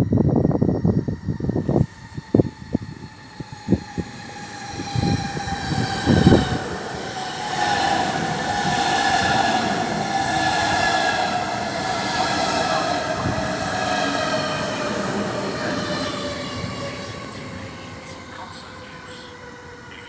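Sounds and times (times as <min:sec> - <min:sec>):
train whine falling in pitch: 0:00.0 - 0:18.2
train rumble: 0:00.0 - 0:20.0.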